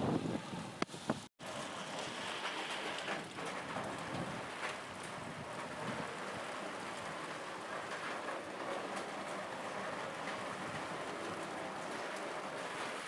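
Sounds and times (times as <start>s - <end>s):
heavy rain falling: 1.4s - 13.0s.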